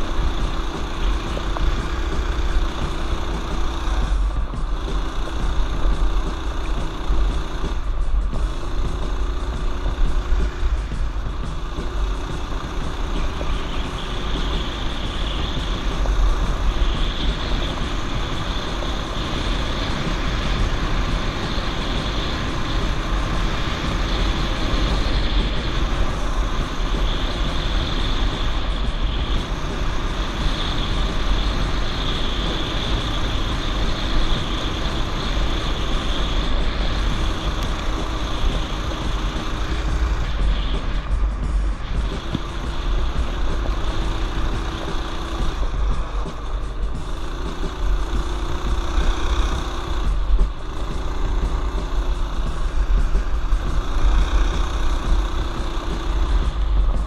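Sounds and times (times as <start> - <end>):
mini bike engine running: 0.0 - 57.0
wind rumble on microphone: 0.0 - 57.0.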